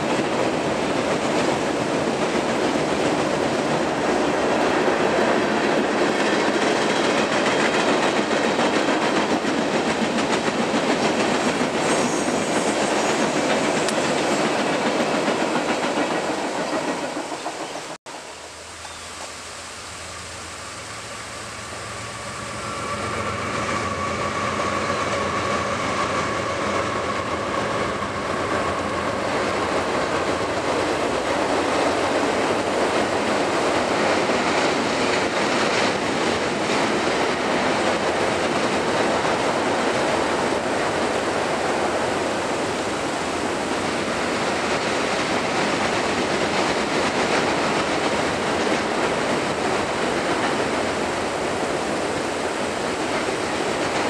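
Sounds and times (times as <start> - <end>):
train wheels rattling on bridge: 0.0 - 18.0, 22.2 - 54.0
diesel locomotive engine drone: 9.3 - 54.0.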